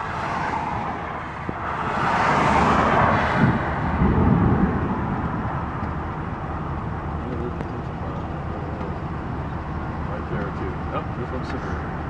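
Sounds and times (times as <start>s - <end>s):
vehicle road and wind noise: 0.0s - 12.0s.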